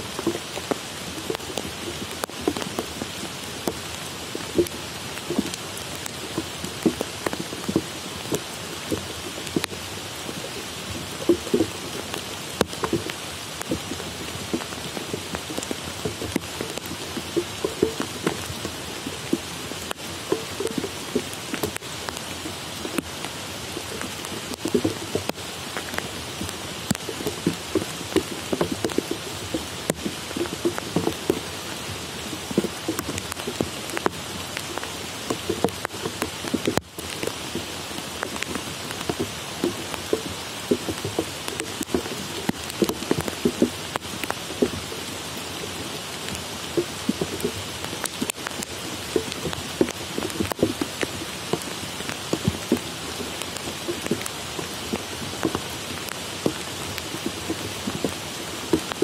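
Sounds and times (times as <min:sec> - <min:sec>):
heavy raindrops pattering: 0:00.0 - 0:59.0
steady rain hiss: 0:00.0 - 0:59.0.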